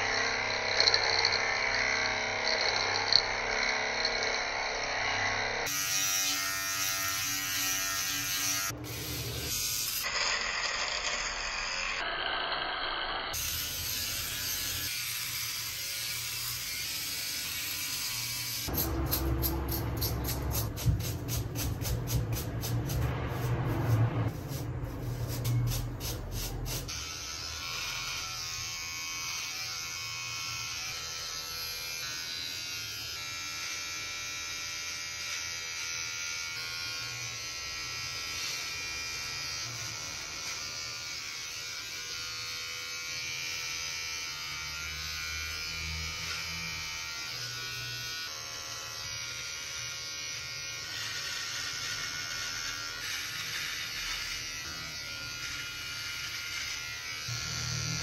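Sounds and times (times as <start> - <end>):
electric shaver buzzing: 0.0 - 58.0.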